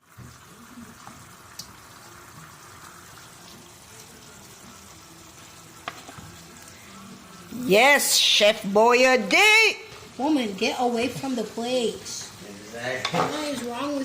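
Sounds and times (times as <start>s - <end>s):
food cooking hiss: 0.0s - 14.0s.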